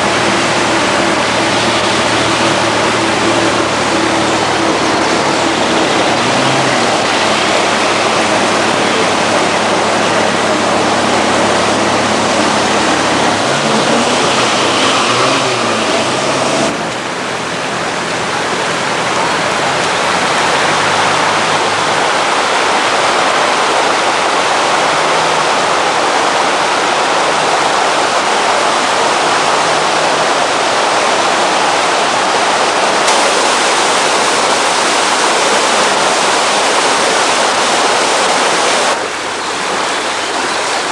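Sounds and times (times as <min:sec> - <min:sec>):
low engine hum: 0:00.0 - 0:40.9
rush of floodwater: 0:00.0 - 0:40.9.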